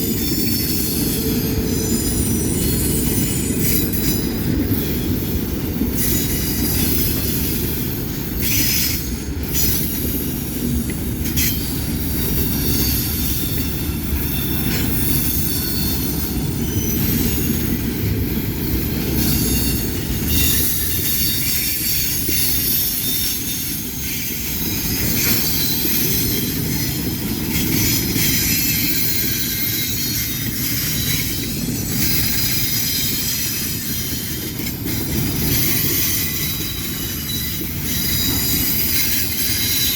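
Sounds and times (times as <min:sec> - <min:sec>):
freight train rumbling on rails: 0:00.0 - 0:39.9
wheels squealing: 0:00.1 - 0:39.9.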